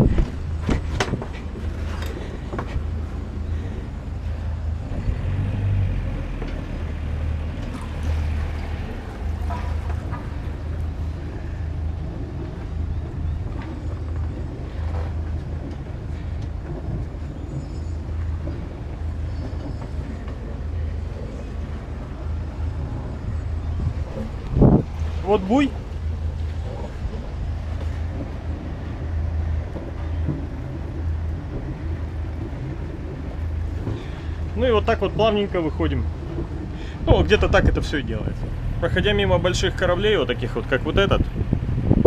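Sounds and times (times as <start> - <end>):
boat engine low drone: 0.0 - 42.0.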